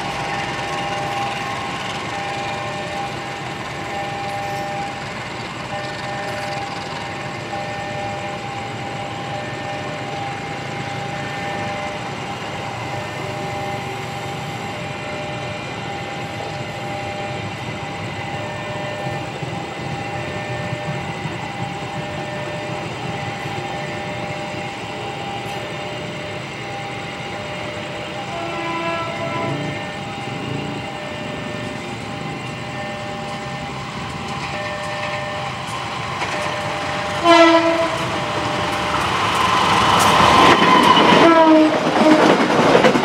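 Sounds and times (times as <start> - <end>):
high whine: 0.0 - 43.0
train running noise: 0.0 - 43.0.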